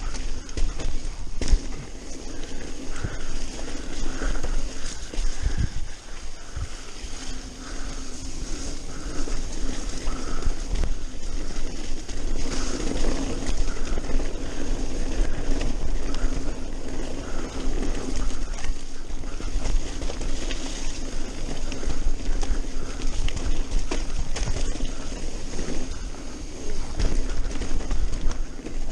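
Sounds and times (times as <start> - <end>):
bike frame rattling: 0.0 - 28.9
bike tyres rolling on dirt: 0.0 - 28.9
wind rumble on microphone: 0.0 - 28.9.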